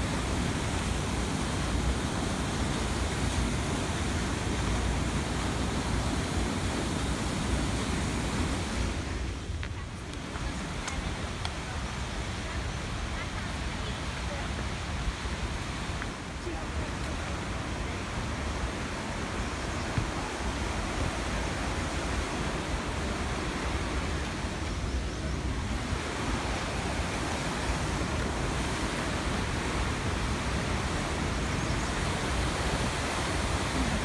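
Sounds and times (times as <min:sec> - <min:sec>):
rushing river water: 0:00.0 - 0:34.0.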